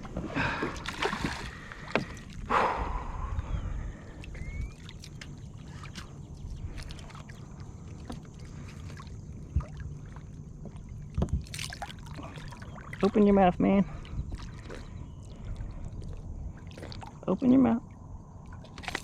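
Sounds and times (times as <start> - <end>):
wind and water on kayak hull: 0.0 - 19.0.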